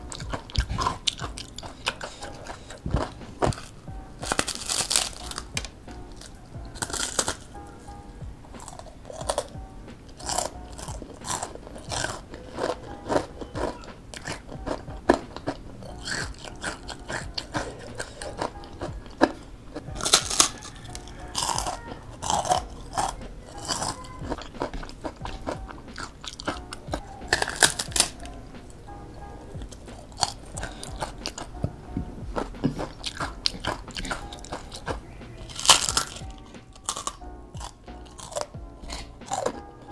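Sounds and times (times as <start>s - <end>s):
crunchy bites and chewing: 0.0s - 7.6s, 8.6s - 28.2s, 29.6s - 31.5s, 32.4s - 39.9s.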